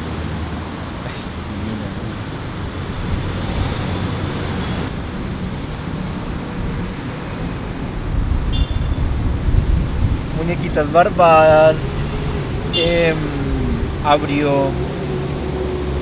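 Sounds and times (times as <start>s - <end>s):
rumble of passing cars: 0.0s - 16.0s
wind buffeting microphone: 1.3s - 16.0s.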